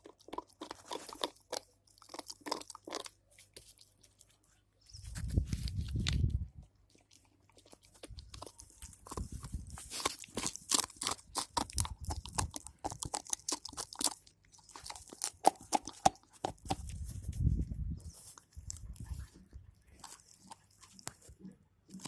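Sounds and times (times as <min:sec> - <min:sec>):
teeth crunching on chew bone: 0:00.0 - 0:04.4, 0:05.2 - 0:17.1, 0:19.8 - 0:22.0.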